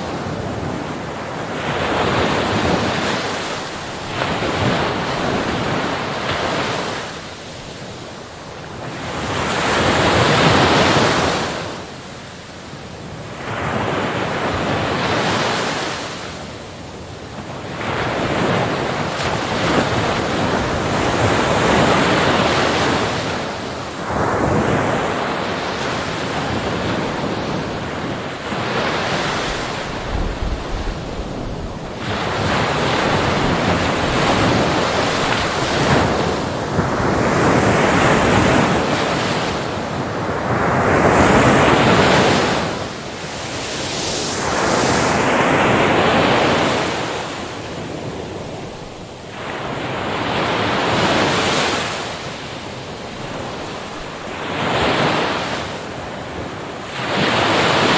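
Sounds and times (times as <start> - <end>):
waves breaking on a beach: 0.0 - 57.9.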